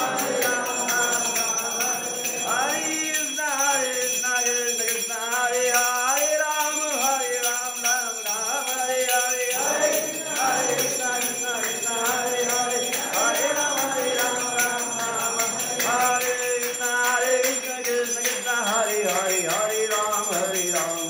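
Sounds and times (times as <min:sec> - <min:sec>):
devotional singing: 0:00.0 - 0:21.0
jingling bells and hand cymbals: 0:00.0 - 0:21.0.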